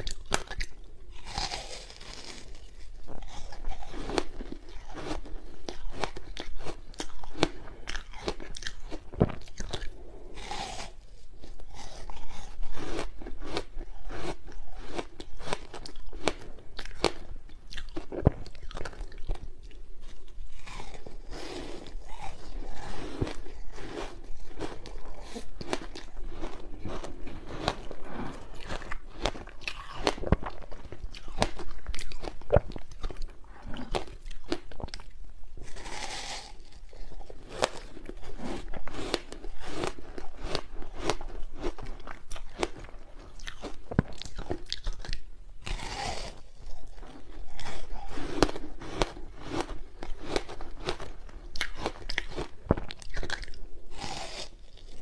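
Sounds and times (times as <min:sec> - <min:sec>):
ice being chewed crunching: 0:00.0 - 0:55.0.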